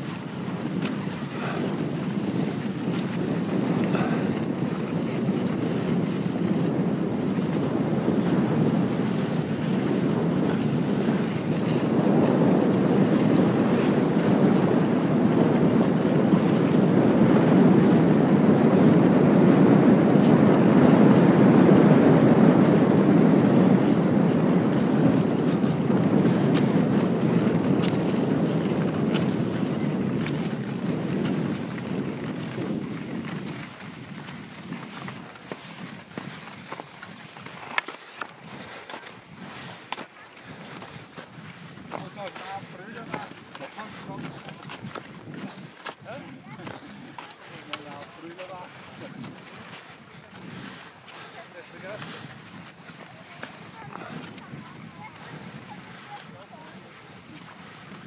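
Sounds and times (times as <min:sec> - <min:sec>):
wind rushing against helmet: 0:00.0 - 0:58.0.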